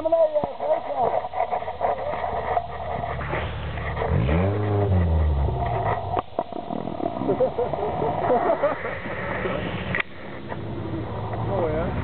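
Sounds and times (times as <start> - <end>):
off-road vehicle engine revving: 0.6 - 12.0.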